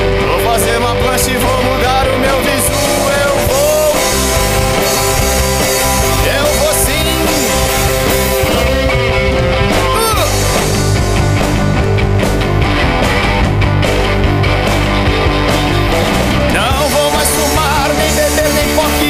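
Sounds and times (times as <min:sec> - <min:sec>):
bending lead guitar lines: 0:00.0 - 0:19.0
punk rock band playing: 0:00.0 - 0:19.0.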